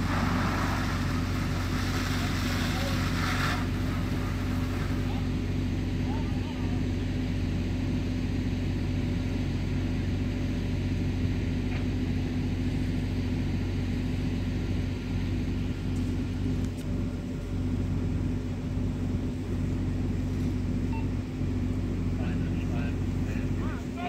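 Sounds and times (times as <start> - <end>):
fire engine engine running: 0.0 - 24.0.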